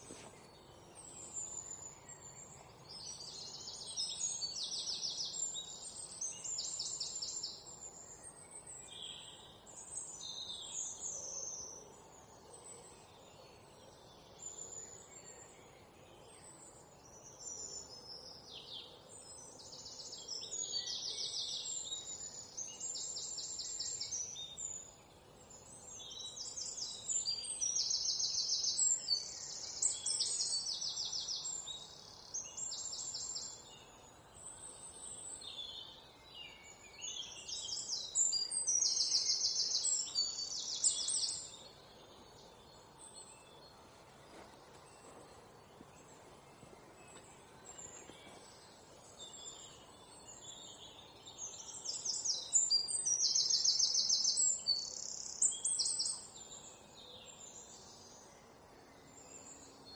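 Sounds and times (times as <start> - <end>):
faint outdoor hiss: 0.0 - 59.9
small birds chirping and trilling: 0.0 - 59.9.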